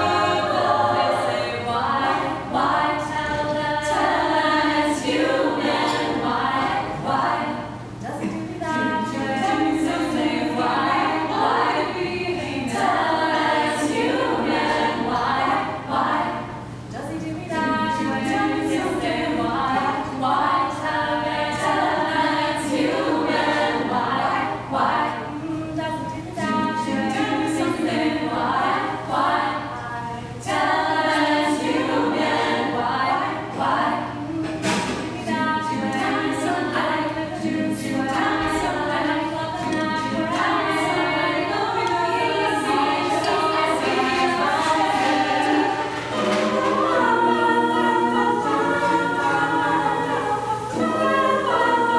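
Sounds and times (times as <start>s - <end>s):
group singing a cappella: 0.0s - 51.9s.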